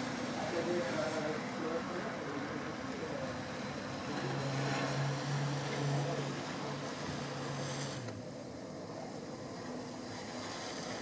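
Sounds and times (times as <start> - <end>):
low mechanical hum: 0.0 - 11.0
outdoor noise: 0.0 - 11.0.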